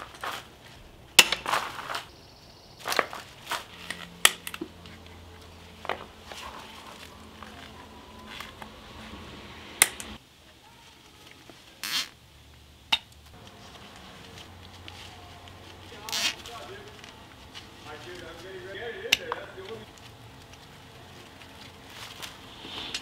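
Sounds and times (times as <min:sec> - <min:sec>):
artificial garlands rustling: 0:00.0 - 0:23.0.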